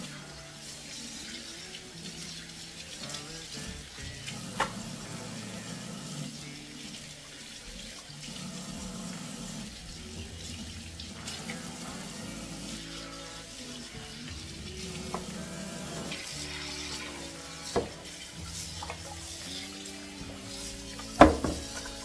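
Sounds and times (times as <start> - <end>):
faucet water splashing over chicken: 0.0 - 22.0.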